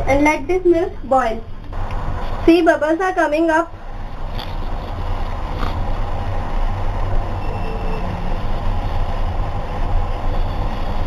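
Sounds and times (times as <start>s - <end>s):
gas flame rumble: 0.0s - 11.0s.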